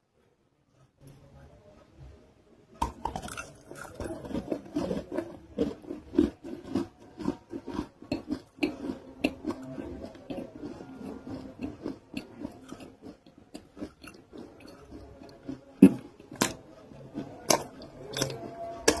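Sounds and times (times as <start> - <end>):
crunchy chewing: 2.8 - 19.0.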